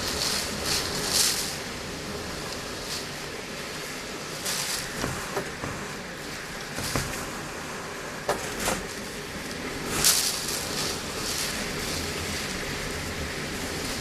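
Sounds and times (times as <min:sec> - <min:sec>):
wind and rain rushing: 0:00.0 - 0:14.0.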